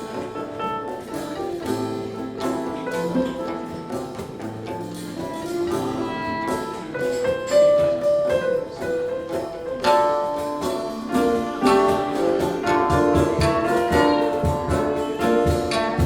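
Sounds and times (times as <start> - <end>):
acoustic ensemble playing: 0.0 - 16.0
plucked string notes: 0.0 - 16.0.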